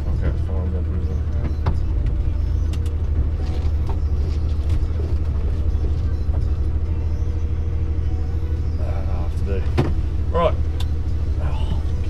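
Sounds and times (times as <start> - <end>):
lorry engine droning: 0.0 - 12.0.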